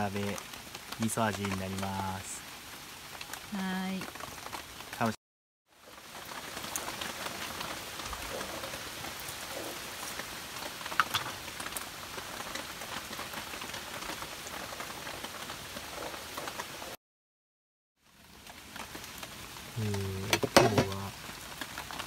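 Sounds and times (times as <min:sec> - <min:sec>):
rain pattering: 0:00.0 - 0:17.0, 0:18.0 - 0:22.0.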